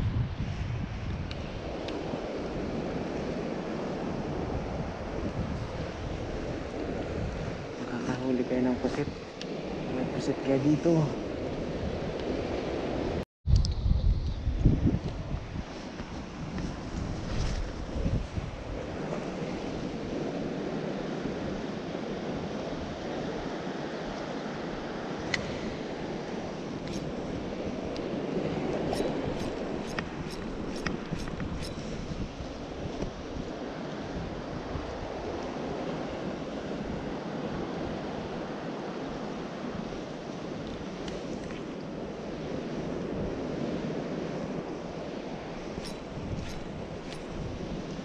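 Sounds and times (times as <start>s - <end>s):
wind buffeting microphone: 0.0s - 48.0s
sea washing against pier: 0.9s - 13.2s, 15.7s - 48.0s.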